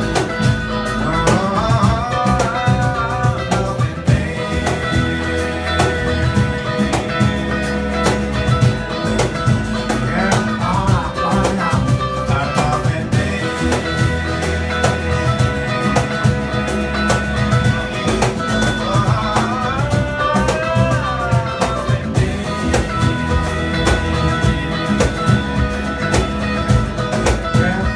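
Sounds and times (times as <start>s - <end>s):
acoustic guitar: 0.0s - 27.9s
drums beat: 0.0s - 27.9s
electric bass: 0.0s - 27.9s
electric guitar: 0.0s - 27.9s.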